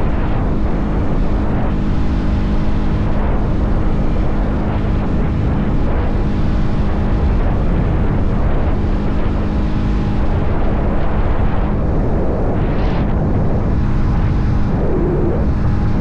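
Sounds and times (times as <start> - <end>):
wind rush over microphone: 0.0 - 16.0.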